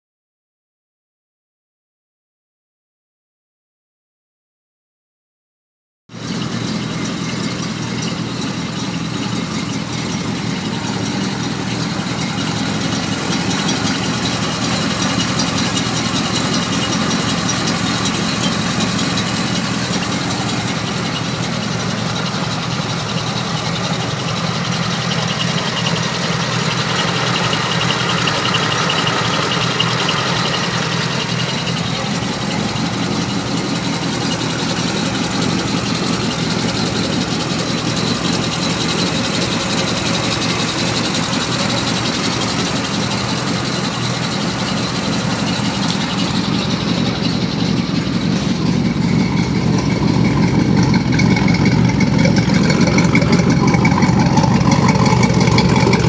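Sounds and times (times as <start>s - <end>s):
car engine idling: 6.1s - 56.0s.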